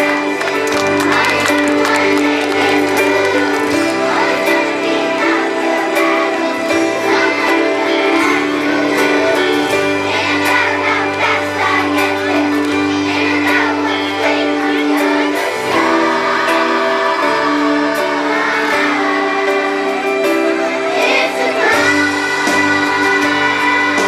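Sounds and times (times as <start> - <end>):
children's chorus singing: 0.0 - 24.0
instrumental accompaniment: 0.0 - 24.0.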